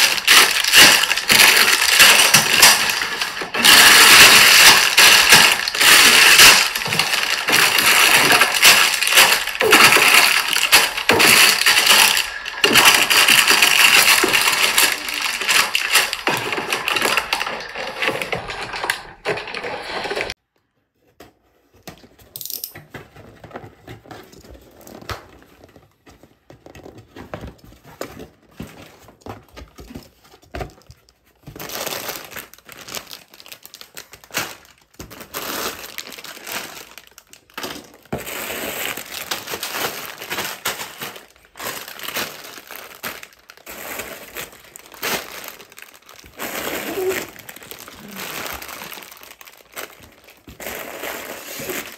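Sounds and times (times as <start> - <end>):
plastic bags crinkling: 0.0 - 20.4, 30.0 - 51.9.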